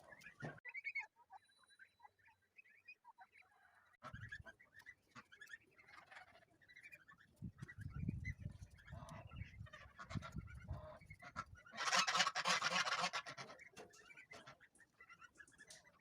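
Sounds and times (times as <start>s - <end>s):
poultry calling: 0.0s - 7.8s, 8.5s - 16.0s.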